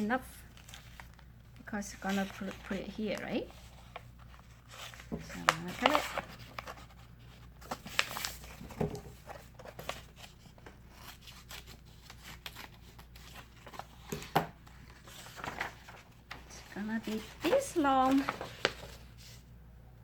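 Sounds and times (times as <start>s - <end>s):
paper rustling: 0.5s - 19.5s.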